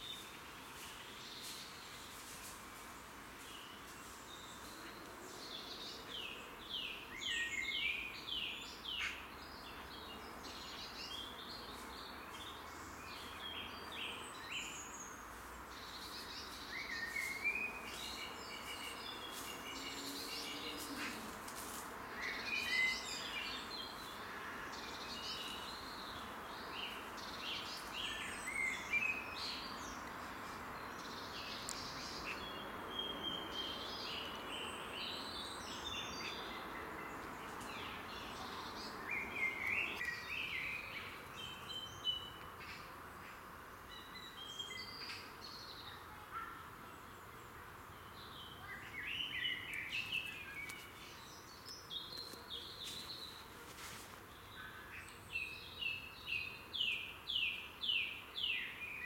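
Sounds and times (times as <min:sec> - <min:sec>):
songbirds singing: 0:00.0 - 0:59.0
steady background hiss: 0:00.0 - 0:59.0.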